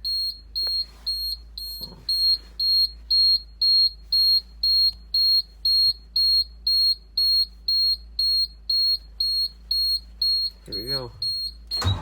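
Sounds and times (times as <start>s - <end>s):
dashboard warning beeper: 0.0s - 12.0s.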